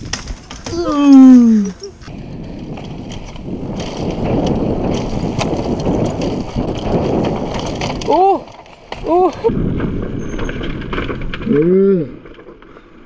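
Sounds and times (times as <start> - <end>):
wind on microphone: 0.0 - 11.6
bike knocks and rattles: 0.0 - 13.0
bike tyres rolling over stones: 0.0 - 13.0.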